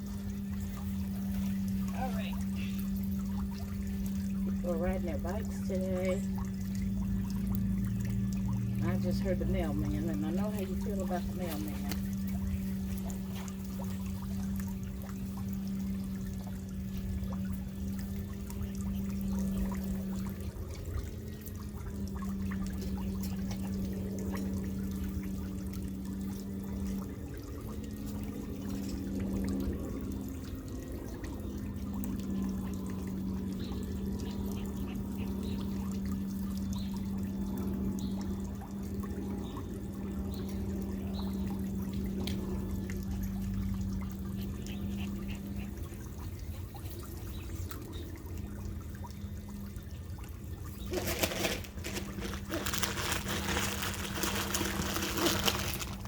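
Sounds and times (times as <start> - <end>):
constant low hum: 0.0 - 56.0
water trickling and pouring: 0.0 - 56.0.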